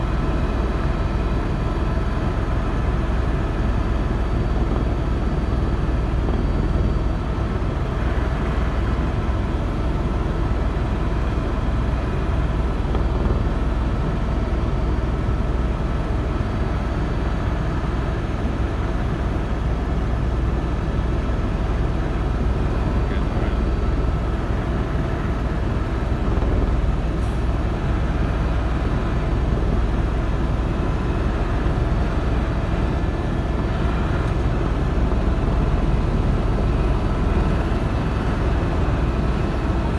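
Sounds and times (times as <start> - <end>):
helicopter rumble: 0.0 - 39.9.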